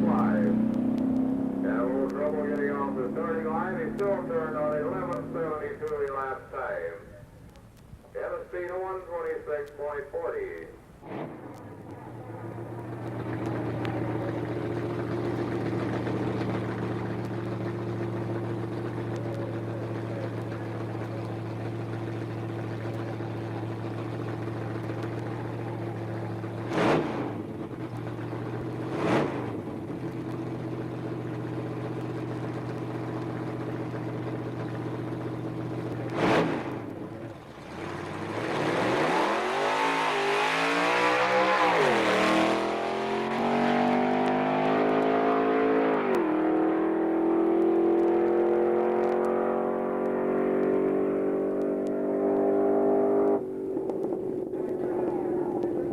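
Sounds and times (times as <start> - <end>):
car accelerating hard: 0.0 - 6.2, 11.0 - 55.9
car engine idling and revving: 0.0 - 55.9.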